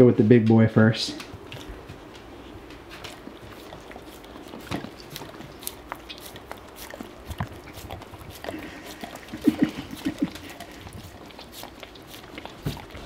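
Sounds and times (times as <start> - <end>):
dog licking wetly: 1.4 - 13.0.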